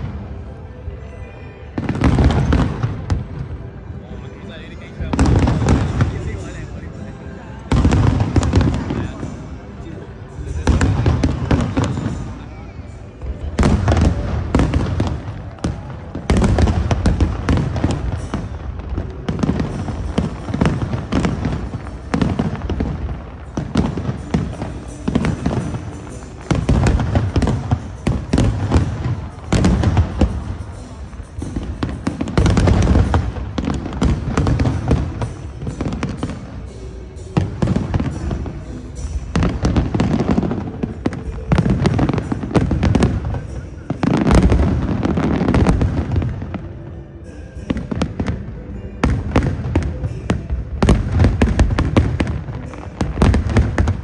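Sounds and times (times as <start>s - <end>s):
fireworks booming and cracking: 1.8s - 4.0s, 4.7s - 54.0s.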